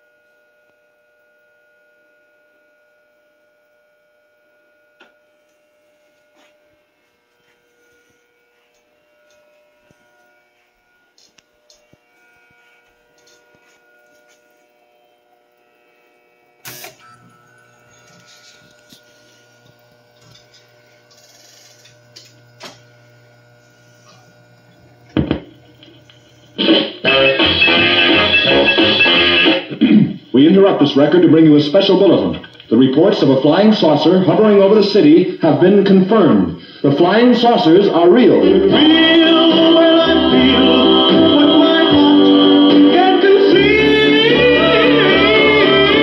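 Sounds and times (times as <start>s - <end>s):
jukebox electrical hum: 0.0s - 46.0s.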